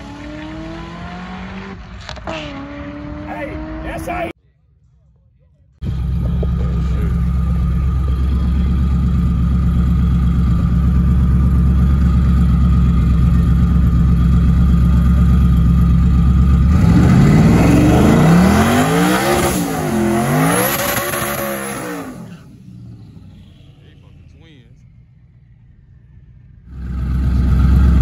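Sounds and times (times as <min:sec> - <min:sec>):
car engine revving: 0:00.0 - 0:04.4, 0:05.8 - 0:28.0.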